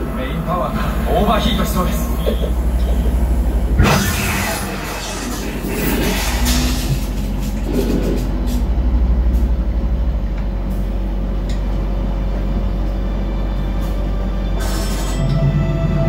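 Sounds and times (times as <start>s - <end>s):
low rumble of ride vehicle: 0.0s - 16.0s.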